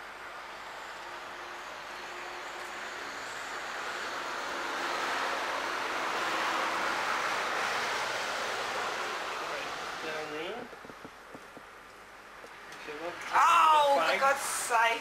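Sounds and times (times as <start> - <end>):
car passing: 0.2 - 15.0.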